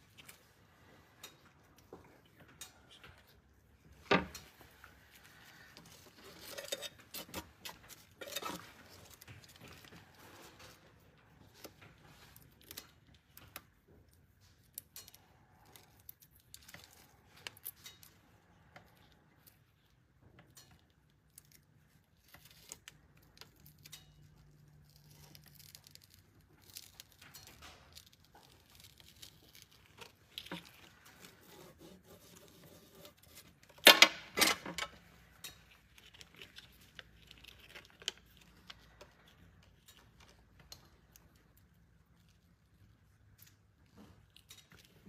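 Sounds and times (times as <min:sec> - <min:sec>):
tweezers on crinkling foil: 0:02.5 - 0:45.0.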